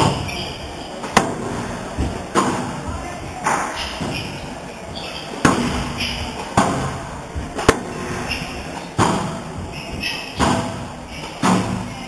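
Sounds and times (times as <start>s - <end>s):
squash ball hitting rackets and walls: 0.0s - 12.0s.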